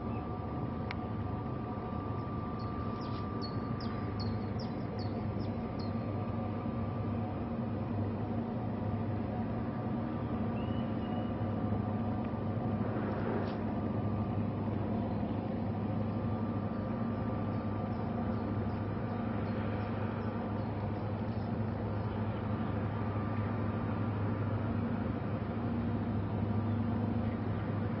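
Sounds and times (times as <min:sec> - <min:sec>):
ship engine droning: 0:00.0 - 0:28.0.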